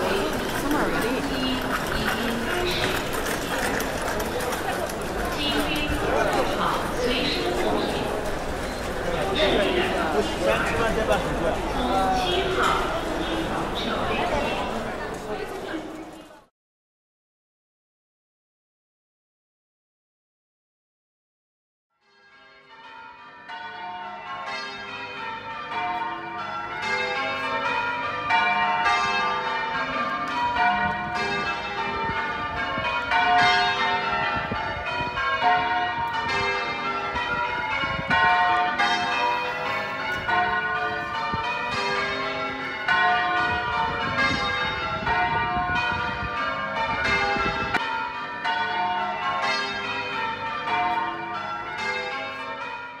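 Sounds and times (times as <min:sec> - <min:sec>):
church bells ringing: 0:00.0 - 0:16.0, 0:22.0 - 0:53.0.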